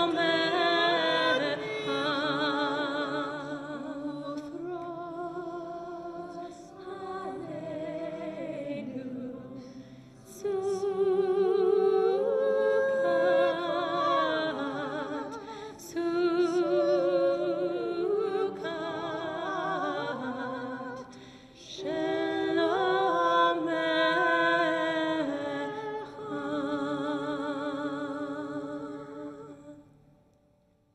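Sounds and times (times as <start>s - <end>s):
choir singing: 0.0s - 29.8s.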